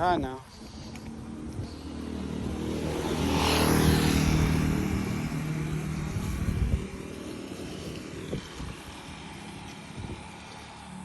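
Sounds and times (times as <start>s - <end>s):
vehicle driving past: 1.0s - 11.0s.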